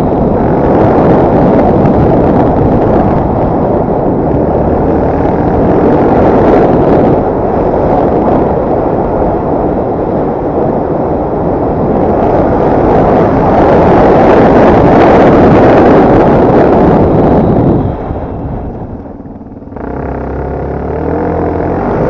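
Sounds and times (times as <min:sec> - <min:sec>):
dirt bike engine running hard: 0:00.0 - 0:22.0
wind buffeting microphone: 0:00.0 - 0:22.0.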